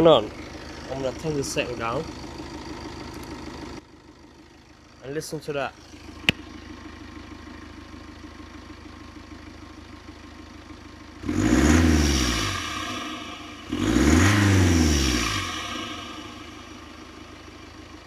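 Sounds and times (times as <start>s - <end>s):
diesel engine idling and revving: 0.0s - 18.0s.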